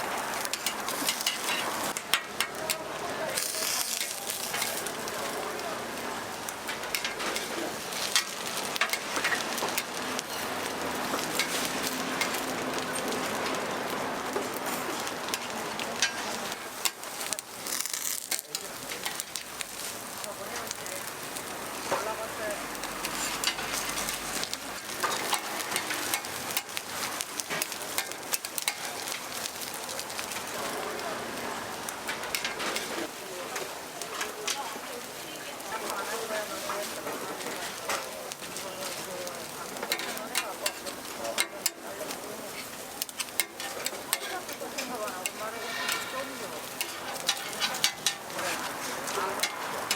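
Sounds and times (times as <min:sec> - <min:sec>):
pancakes sizzling in oil: 0:00.0 - 0:49.9.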